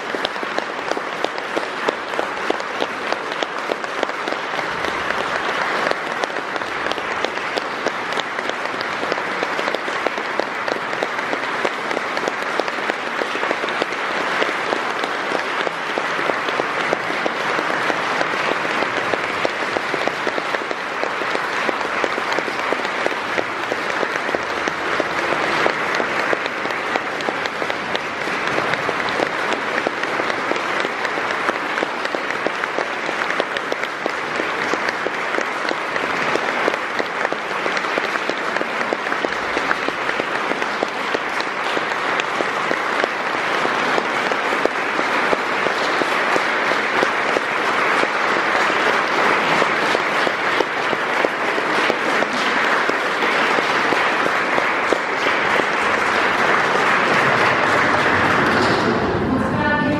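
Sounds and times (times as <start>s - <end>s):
audience applauding: 0.0s - 59.4s.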